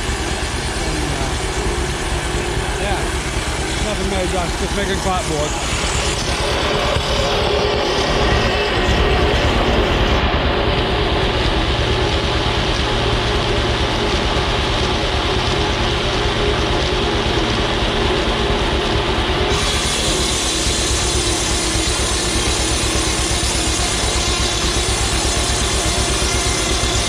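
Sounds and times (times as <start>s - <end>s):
circular saw cutting wood: 0.0s - 27.0s
drive engine running: 0.0s - 27.0s
machine clatter: 0.0s - 27.0s.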